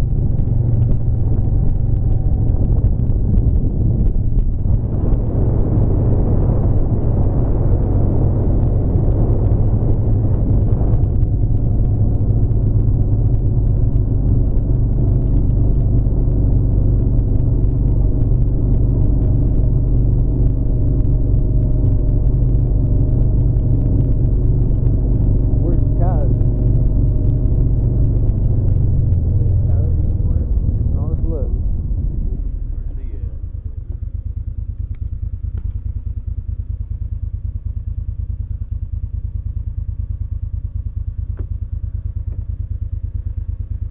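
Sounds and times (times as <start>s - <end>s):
road noise: 0.0s - 36.8s
vehicle engine droning: 0.0s - 43.9s.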